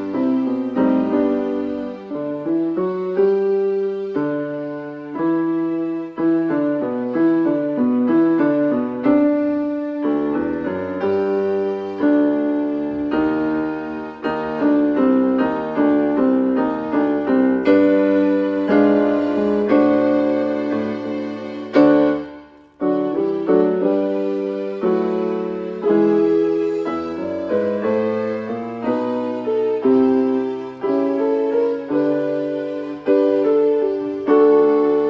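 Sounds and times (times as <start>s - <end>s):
electronic keyboard piano piece: 0.0s - 35.0s.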